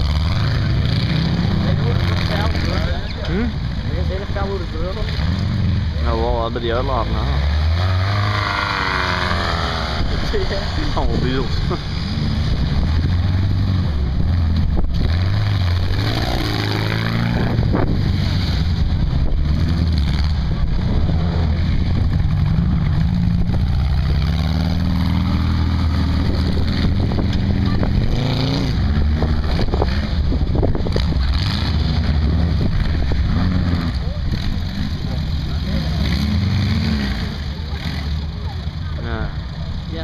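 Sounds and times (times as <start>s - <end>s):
off-road car engines revving: 0.0s - 40.0s.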